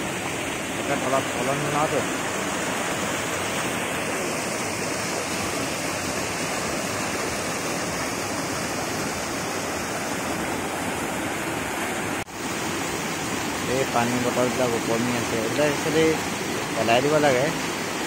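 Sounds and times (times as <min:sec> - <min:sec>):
whitewater rushing over rocks: 0:00.0 - 0:18.0.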